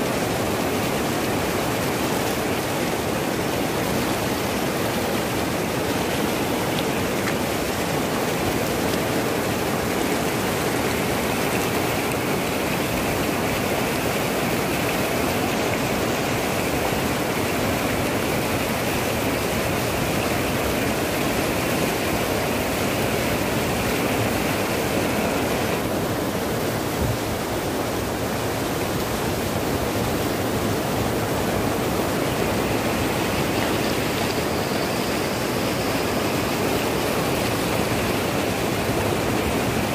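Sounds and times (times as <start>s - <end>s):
river water rushing over boulders: 0.0s - 39.9s.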